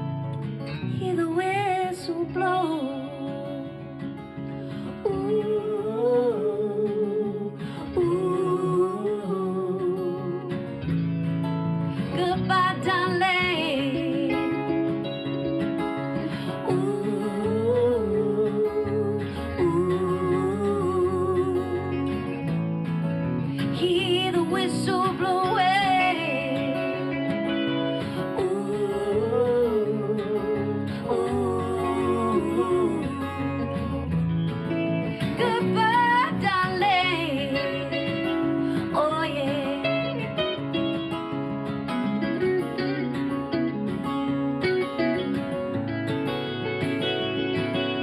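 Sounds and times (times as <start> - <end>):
country folk instrumental with guitars: 0.0 - 48.0.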